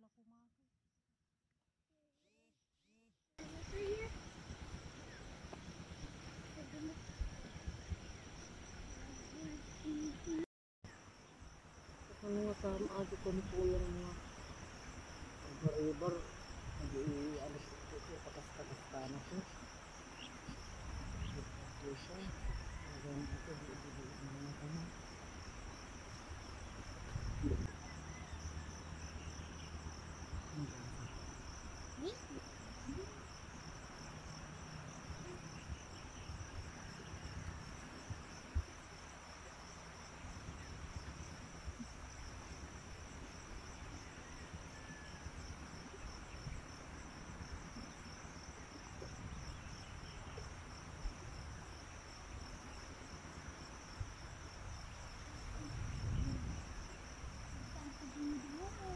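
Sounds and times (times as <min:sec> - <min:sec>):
insects chirring in a trill: 0:03.4 - 0:58.9.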